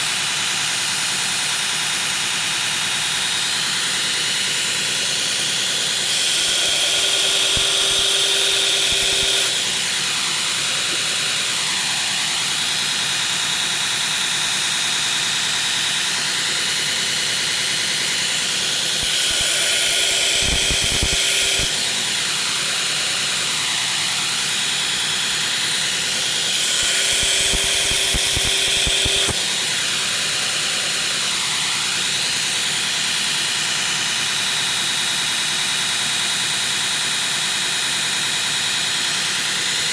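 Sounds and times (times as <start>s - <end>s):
belt grinder running: 0.0s - 39.9s.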